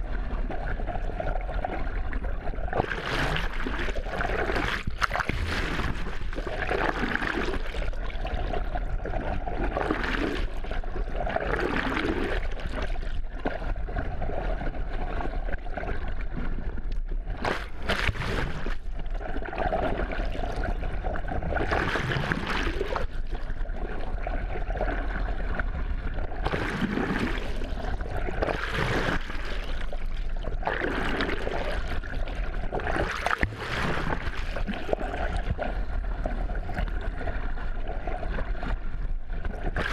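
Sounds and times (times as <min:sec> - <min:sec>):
muffled rush of water: 0:00.0 - 0:39.9.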